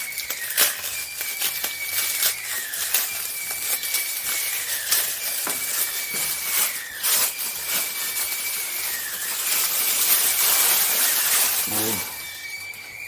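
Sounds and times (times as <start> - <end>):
packaging wrap crinkling: 0.0 - 12.8.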